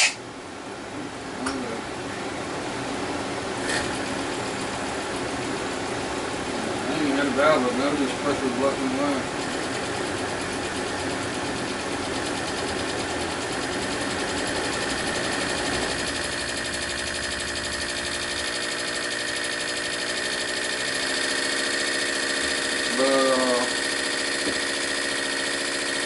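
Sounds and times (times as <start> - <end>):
model radial engine running: 3.6 - 26.0.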